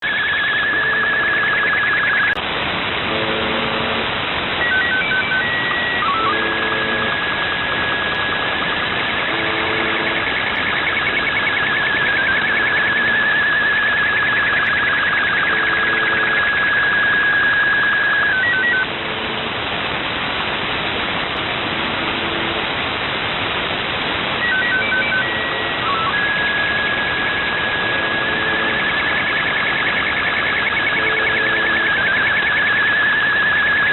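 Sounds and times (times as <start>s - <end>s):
steady high-pitched tone: 0.0s - 19.6s, 24.4s - 33.9s
radio static: 0.0s - 33.9s.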